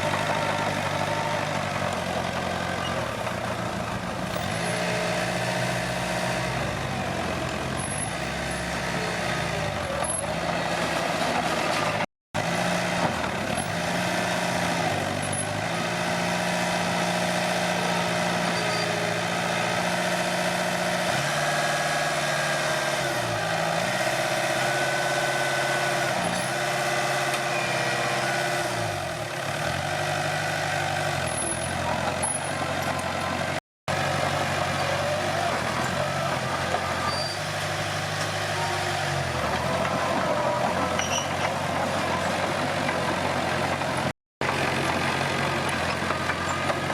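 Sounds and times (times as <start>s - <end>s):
bulldozer diesel engine: 0.0s - 46.9s.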